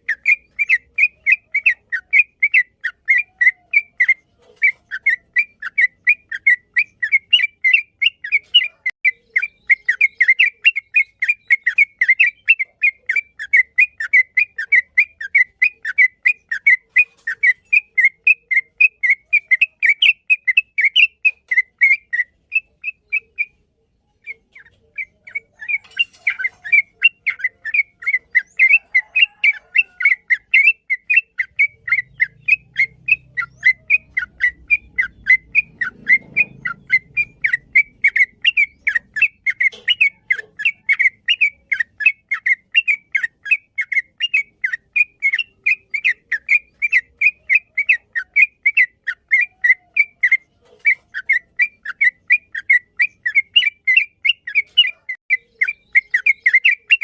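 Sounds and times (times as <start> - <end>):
bird whistled chirps: 0.0 - 57.0.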